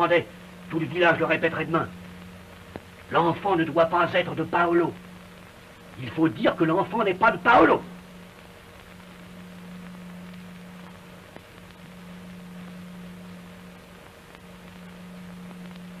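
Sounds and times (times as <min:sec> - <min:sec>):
film soundtrack hiss and hum: 0:00.0 - 0:16.0.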